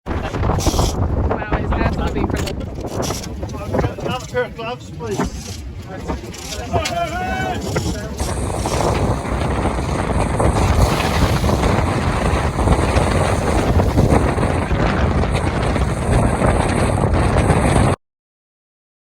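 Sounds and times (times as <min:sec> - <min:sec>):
rush of wind and sea: 0:00.0 - 0:18.0
wind buffeting microphone: 0:00.0 - 0:18.0.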